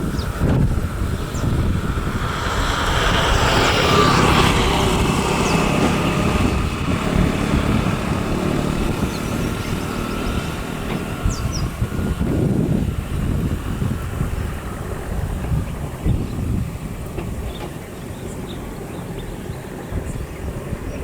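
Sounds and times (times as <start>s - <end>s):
outdoor rumble and hiss: 0.0s - 21.0s.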